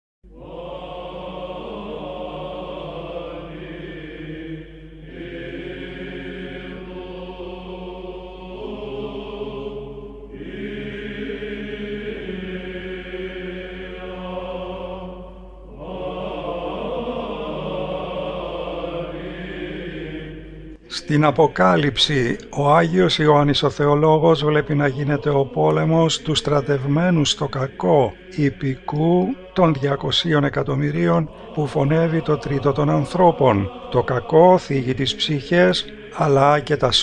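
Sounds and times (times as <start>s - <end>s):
voices chanting: 0.3s - 37.0s.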